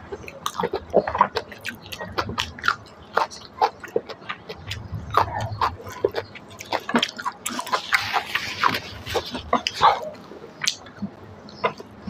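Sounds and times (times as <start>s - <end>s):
chewing and mouth smacking: 0.0s - 12.0s.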